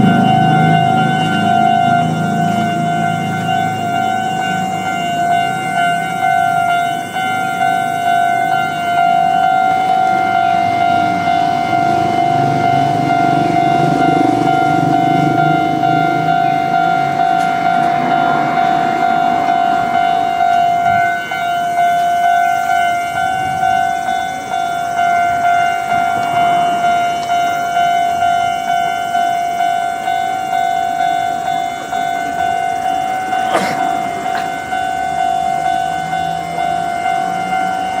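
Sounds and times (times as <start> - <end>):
level crossing warning bell: 0.0 - 38.0.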